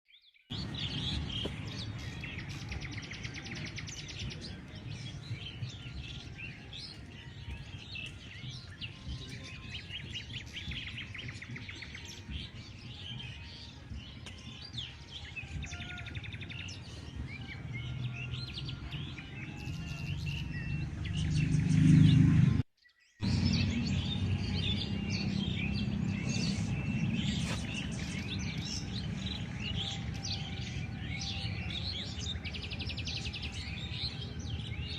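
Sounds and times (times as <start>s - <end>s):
birds chirping: 0.1s - 34.9s.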